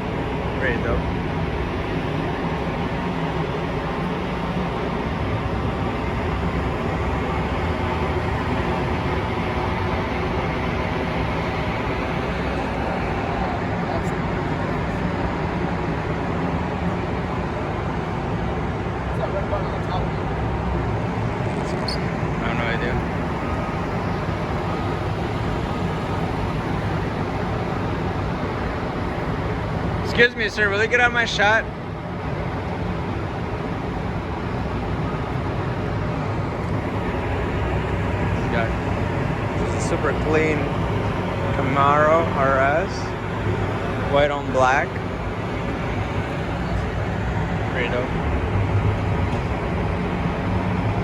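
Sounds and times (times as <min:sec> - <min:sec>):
background rumble and hiss: 0:00.0 - 0:51.0.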